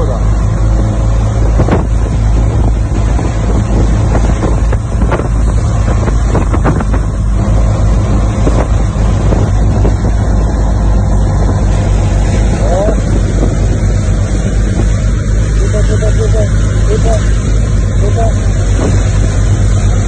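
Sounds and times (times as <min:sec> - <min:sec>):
motorboat engine: 0:00.0 - 0:20.0
rushing wake: 0:00.0 - 0:20.0
wind buffeting microphone: 0:00.0 - 0:20.0.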